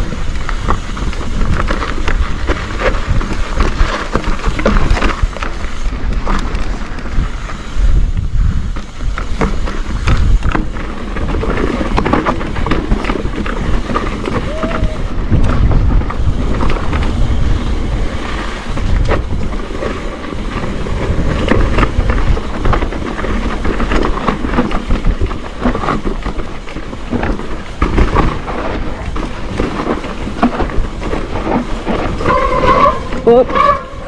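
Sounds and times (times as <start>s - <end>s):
bike rattling over rough ground: 0.0s - 34.0s
wind rumbling on microphone: 0.0s - 34.0s.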